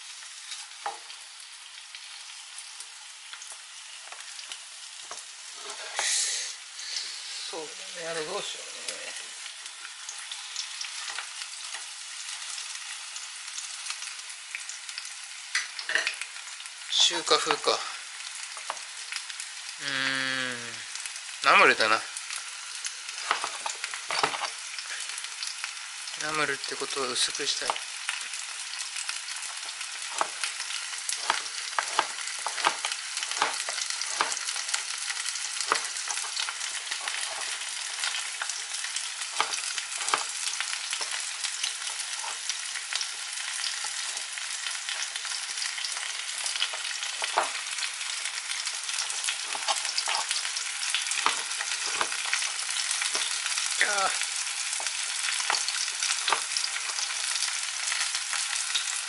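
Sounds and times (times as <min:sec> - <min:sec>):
food sizzling in oil: 0:00.0 - 0:59.0.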